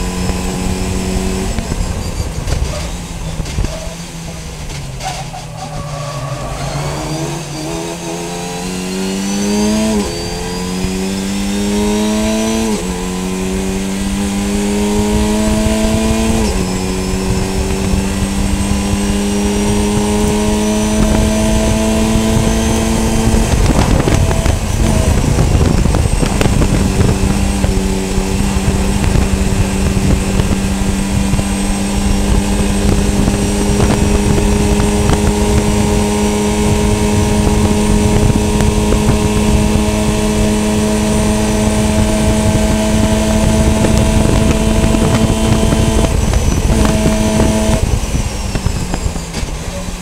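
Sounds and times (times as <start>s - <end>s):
race car engine: 0.0s - 50.0s
wind and road noise: 0.0s - 50.0s.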